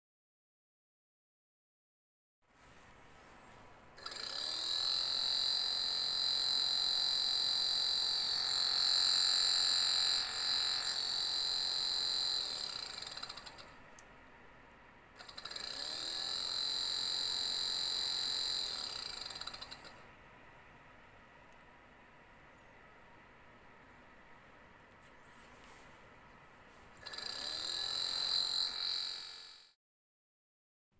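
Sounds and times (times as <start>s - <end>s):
electric fan motor whining: 3.5s - 29.7s.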